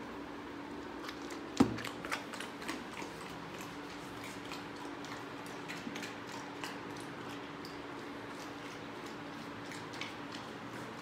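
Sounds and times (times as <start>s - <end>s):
puppy crunching dry kibble: 0.8s - 11.0s.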